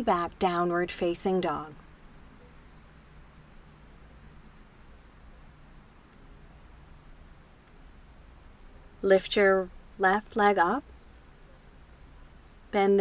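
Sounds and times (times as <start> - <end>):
outdoor background hiss: 0.0 - 13.0
insect chirping: 1.7 - 12.8.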